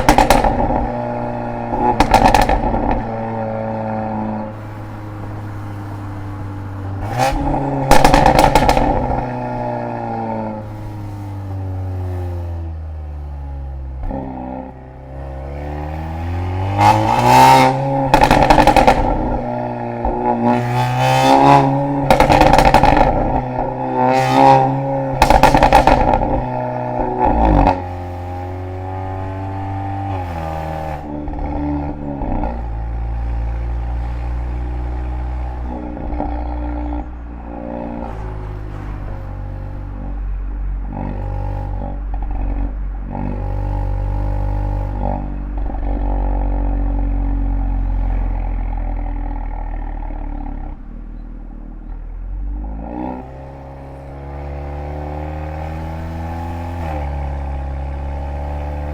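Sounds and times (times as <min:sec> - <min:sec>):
car exhaust idling and revving: 0:00.0 - 0:58.9.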